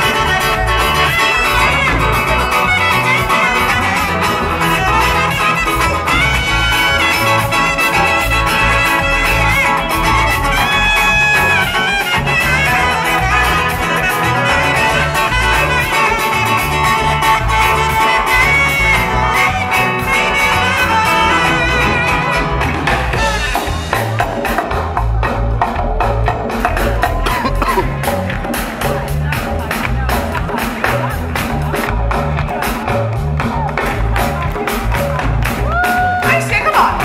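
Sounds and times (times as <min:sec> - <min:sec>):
held melody notes: 0:00.0 - 0:36.0
live band dance music: 0:00.0 - 0:37.0.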